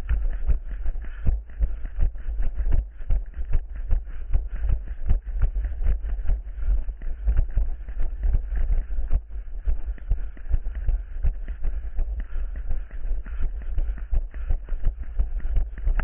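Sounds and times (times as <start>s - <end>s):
running footsteps on rough ground: 0.0s - 16.0s.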